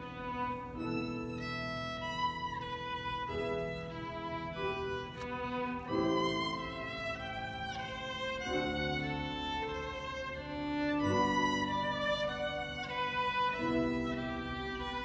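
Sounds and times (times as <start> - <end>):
solo violin sustained notes: 0.0 - 15.0.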